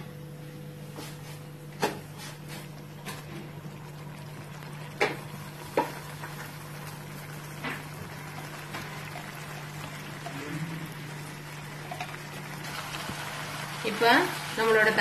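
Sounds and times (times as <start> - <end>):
sauce bubbling and sizzling: 1.8 - 15.0.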